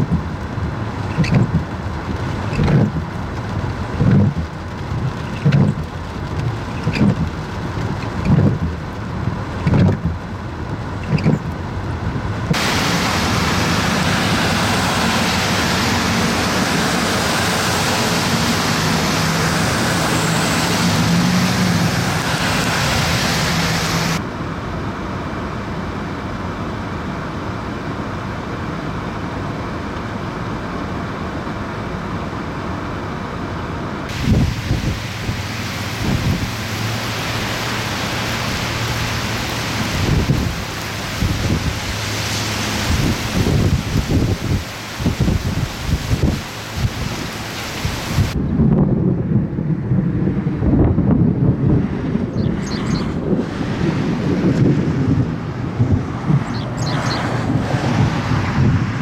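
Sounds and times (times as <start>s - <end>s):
heavy rain on vehicle: 0.0s - 48.4s, 53.4s - 59.0s.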